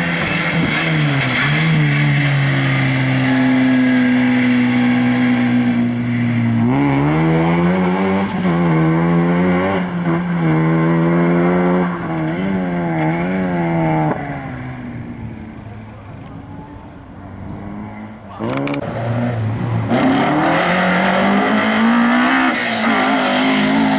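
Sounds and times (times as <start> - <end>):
race car engine accelerating: 0.0 - 23.9.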